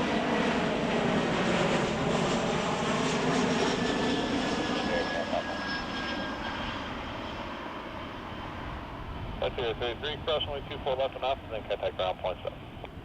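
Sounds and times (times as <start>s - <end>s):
jet engines passing: 0.0s - 13.0s.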